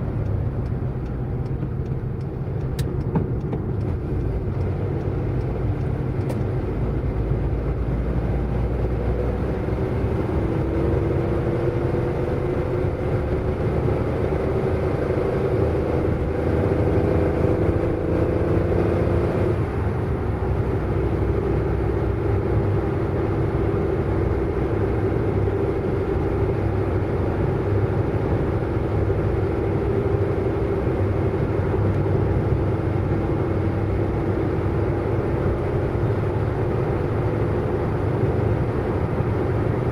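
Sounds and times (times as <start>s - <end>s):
car engine accelerating: 0.0s - 39.9s
low road rumble: 0.0s - 39.9s.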